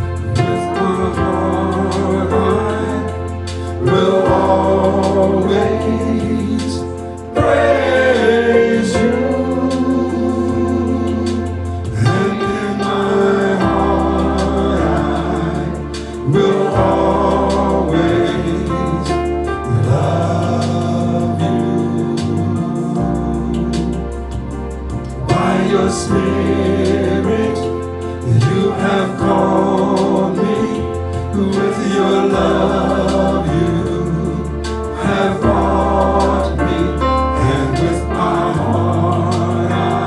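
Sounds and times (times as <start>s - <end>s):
gospel choir singing: 0.0s - 40.0s
keyboard accompaniment with bass: 0.0s - 40.0s.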